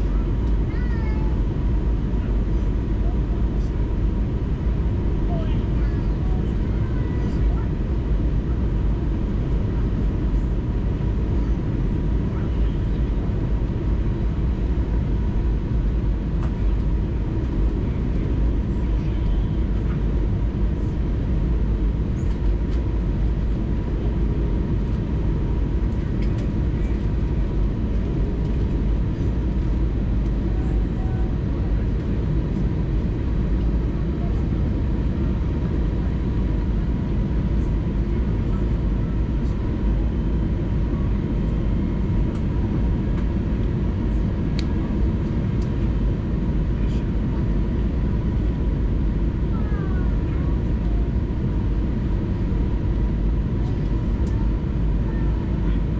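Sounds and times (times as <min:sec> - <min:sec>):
aircraft cabin rumble: 0:00.0 - 0:55.9
faint high hum: 0:00.0 - 0:55.9.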